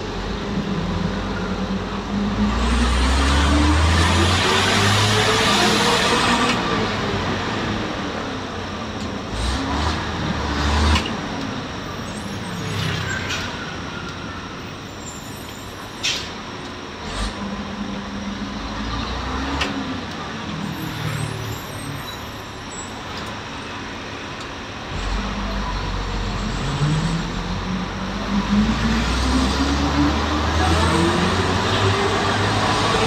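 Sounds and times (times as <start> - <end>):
bus engine running: 0.0 - 33.0
road noise: 0.0 - 33.0.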